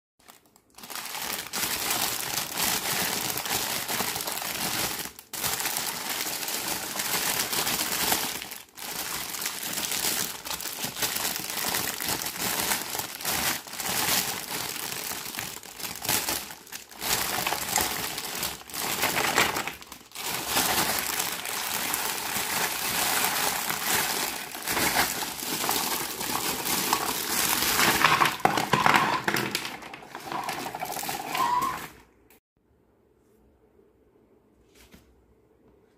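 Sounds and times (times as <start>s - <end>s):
plastic bag crinkling: 0.2s - 32.1s.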